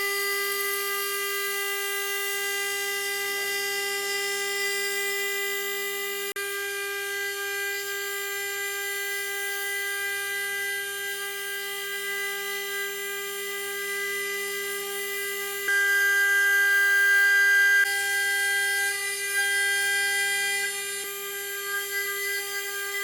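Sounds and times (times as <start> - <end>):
cnc spindle milling whine: 0.0 - 23.0.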